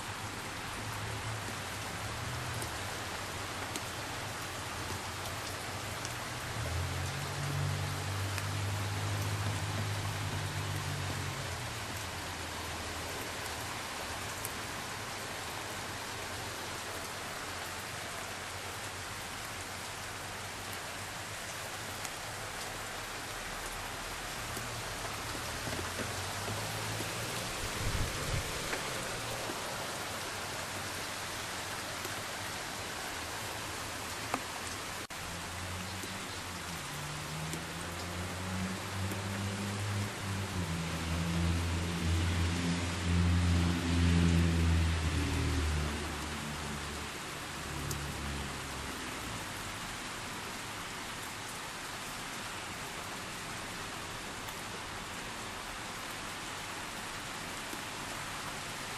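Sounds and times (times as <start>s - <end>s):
heavy rain hissing: 0.0s - 58.9s.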